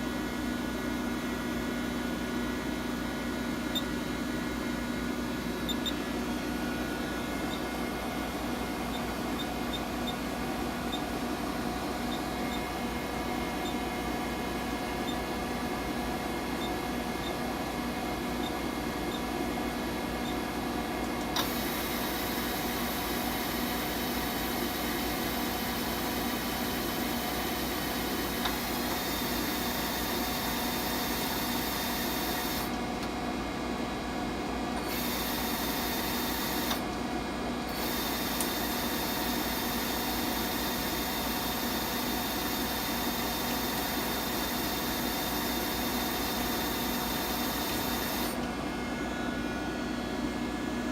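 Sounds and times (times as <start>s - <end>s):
machine hum with steady tones: 0.0s - 50.9s.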